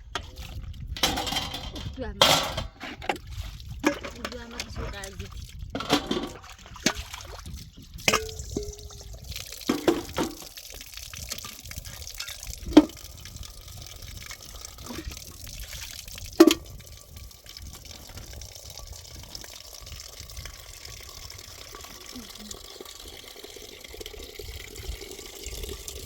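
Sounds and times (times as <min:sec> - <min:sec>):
water pouring: 0:00.0 - 0:02.3, 0:03.0 - 0:26.0.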